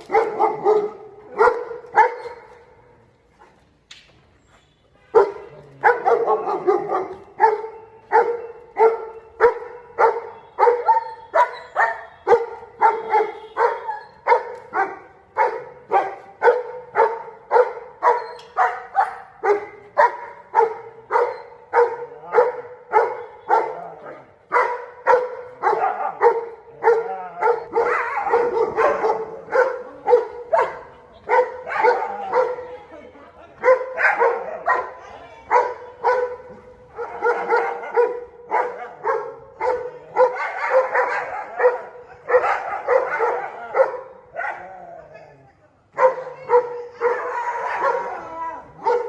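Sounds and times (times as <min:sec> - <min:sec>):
dog barking: 0:00.0 - 0:02.6, 0:05.1 - 0:32.8, 0:33.6 - 0:44.8, 0:45.9 - 0:49.0.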